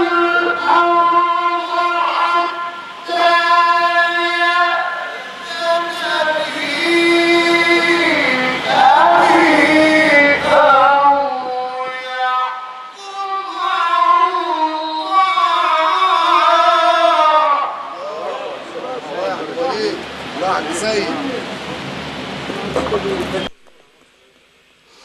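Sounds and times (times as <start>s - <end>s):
man reciting melodically: 0.0s - 21.2s.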